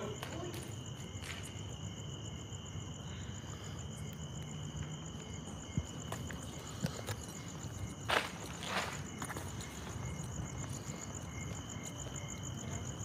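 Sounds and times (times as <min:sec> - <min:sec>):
crickets chirping: 0:00.0 - 0:13.0
faint outdoor background noise: 0:00.0 - 0:13.0.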